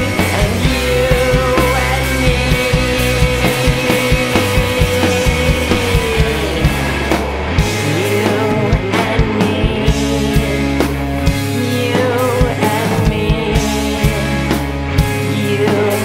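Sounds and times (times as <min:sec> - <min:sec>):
drums beating: 0:00.0 - 0:16.0
heavy bass: 0:00.0 - 0:16.0
rock band playing: 0:00.0 - 0:16.0.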